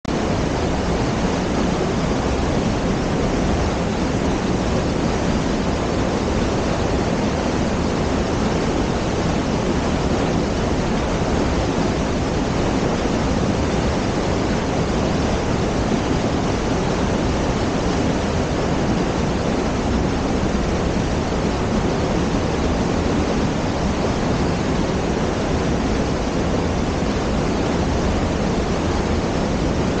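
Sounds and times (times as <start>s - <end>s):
water rushing through gorge: 0.1s - 30.0s.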